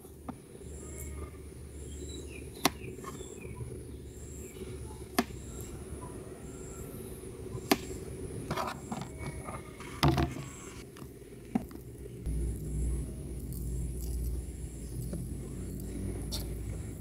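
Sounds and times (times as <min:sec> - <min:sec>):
steady low rumble: 0:00.0 - 0:08.5, 0:10.8 - 0:17.0.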